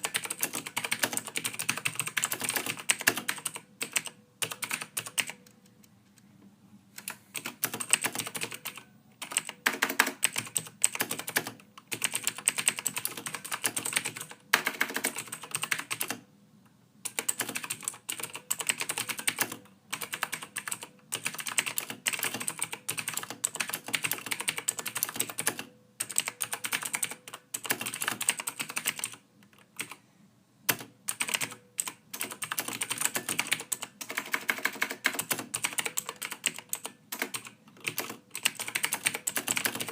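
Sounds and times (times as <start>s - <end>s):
typing on a keyboard: 0.0s - 5.8s, 7.0s - 16.2s, 17.1s - 30.0s, 30.7s - 39.9s.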